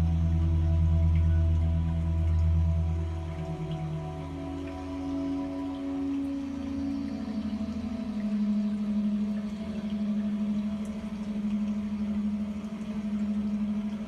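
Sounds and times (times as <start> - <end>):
slow ambient music: 0.0 - 14.0.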